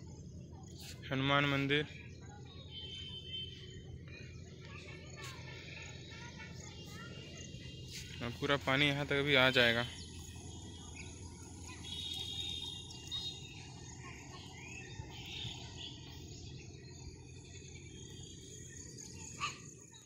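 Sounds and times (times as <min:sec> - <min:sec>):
bird chirps: 0:00.0 - 0:20.0
insects droning: 0:00.0 - 0:20.0.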